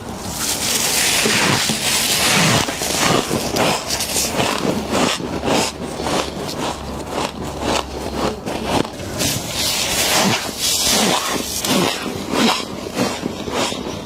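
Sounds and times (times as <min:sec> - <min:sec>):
frost crunching: 0:00.0 - 0:14.0.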